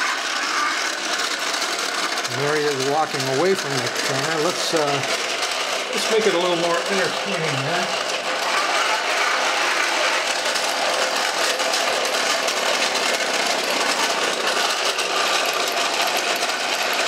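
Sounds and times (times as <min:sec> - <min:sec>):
fast mechanical rattle: 0:00.0 - 0:17.0.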